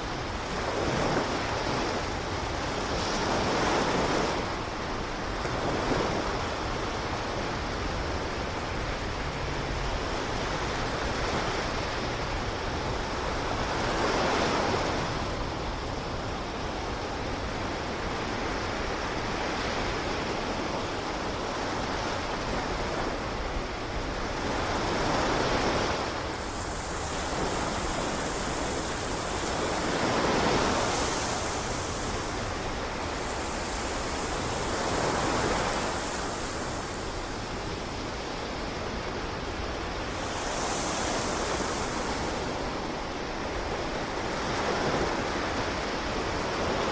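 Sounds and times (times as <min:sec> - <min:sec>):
waves washing on rocky shore: 0:00.0 - 0:46.9.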